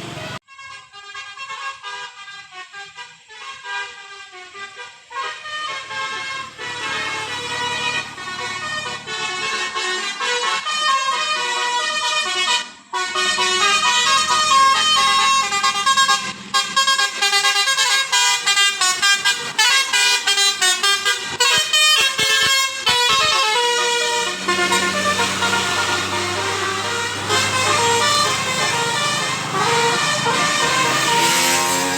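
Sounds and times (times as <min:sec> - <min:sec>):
multi-tone bus horn melody: 0:00.0 - 0:31.9.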